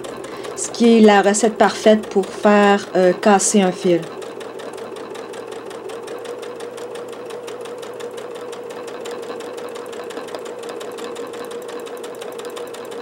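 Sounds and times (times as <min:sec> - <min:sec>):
sewing machine humming and ticking: 0:00.0 - 0:13.0.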